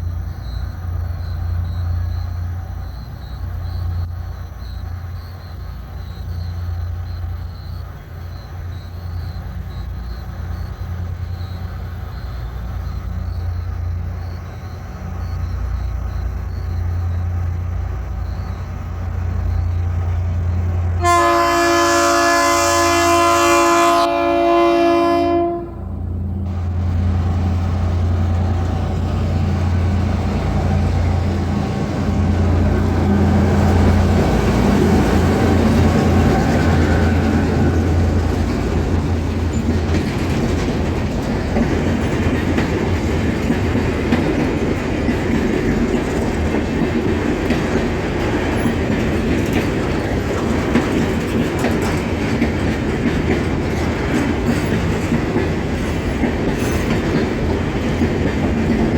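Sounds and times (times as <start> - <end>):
diesel locomotive engines humming: 0.0 - 58.9
freight wagons rumbling past: 0.0 - 58.9
wheels clicking over rail joints: 0.8 - 58.9.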